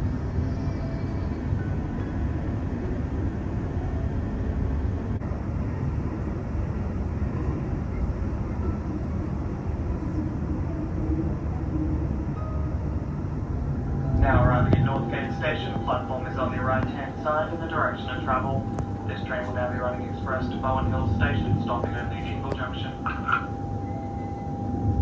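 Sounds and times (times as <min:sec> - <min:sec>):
train wheels and motors rumbling: 0:00.0 - 0:25.0.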